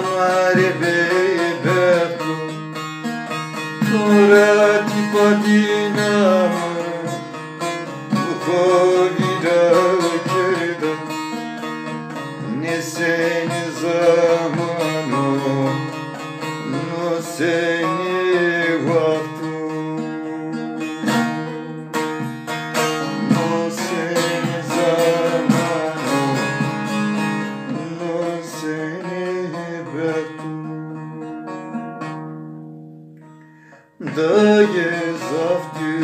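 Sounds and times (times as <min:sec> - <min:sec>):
plucked string instrument melody: 0:00.0 - 0:36.0.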